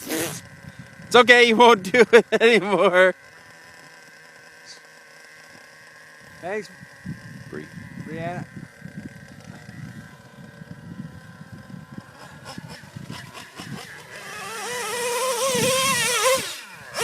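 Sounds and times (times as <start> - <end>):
small nitro engine revving: 0.0 - 17.0.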